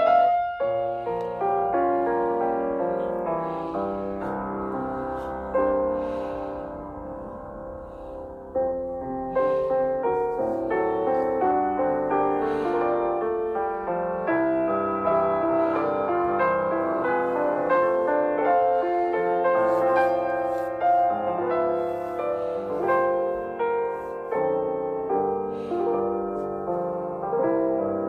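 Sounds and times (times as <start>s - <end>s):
gentle piano instrumental music: 0.0s - 28.0s.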